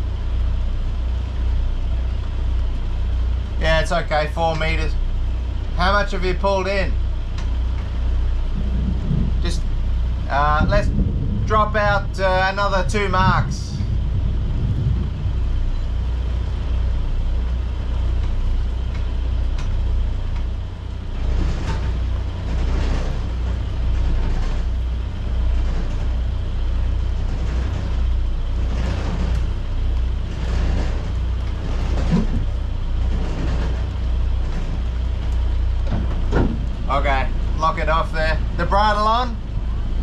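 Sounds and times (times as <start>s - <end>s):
low rumble: 0.0s - 40.0s.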